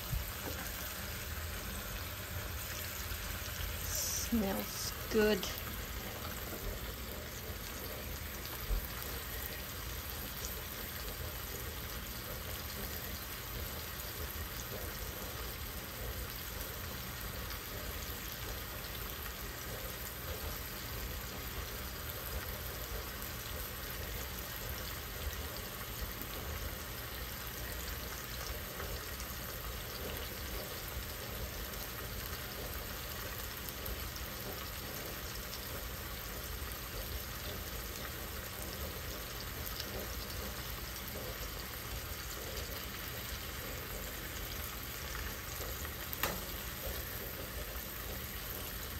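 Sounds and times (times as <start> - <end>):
fish sizzling in a pan: 0.0 - 48.9.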